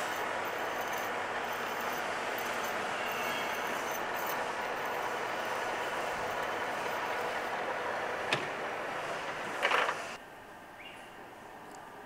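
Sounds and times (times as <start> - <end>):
metal lathe running: 0.0 - 10.2.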